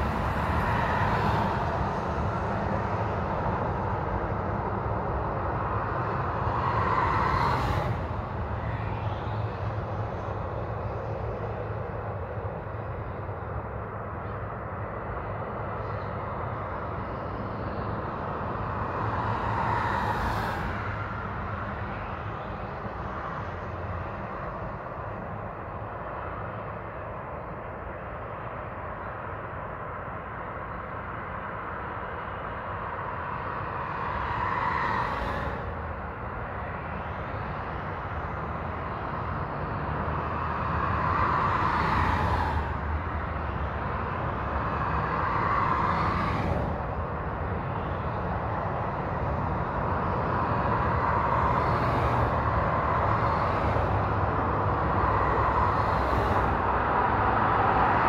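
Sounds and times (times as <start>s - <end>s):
highway traffic rush: 0.0s - 58.0s
vehicles passing close: 0.0s - 58.0s.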